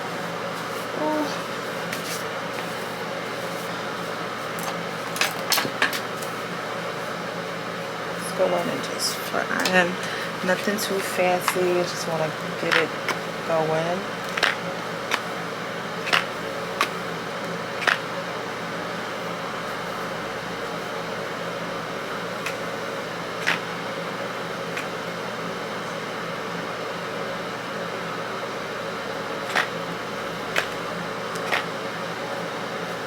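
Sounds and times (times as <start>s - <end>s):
fan-like hum: 0.0s - 33.0s.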